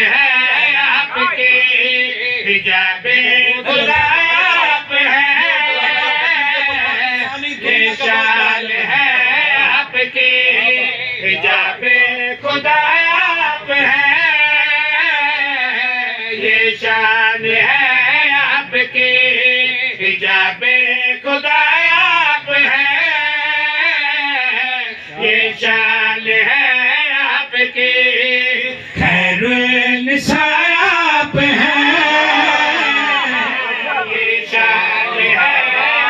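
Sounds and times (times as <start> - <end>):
men singing devotional poem: 0.0 - 36.0.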